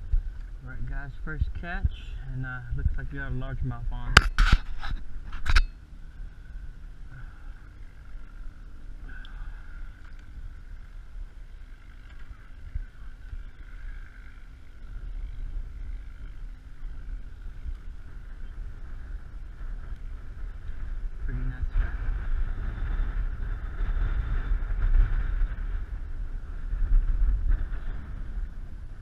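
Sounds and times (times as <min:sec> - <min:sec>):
faint high-pitched whine: 0:00.0 - 0:29.0
wind buffeting microphone: 0:00.0 - 0:29.0.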